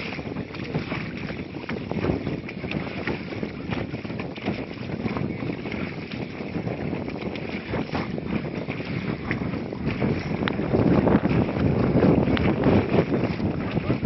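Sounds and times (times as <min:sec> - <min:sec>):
motorboat engine and water rush: 0:00.0 - 0:14.0
wind buffeting microphone: 0:00.0 - 0:14.0.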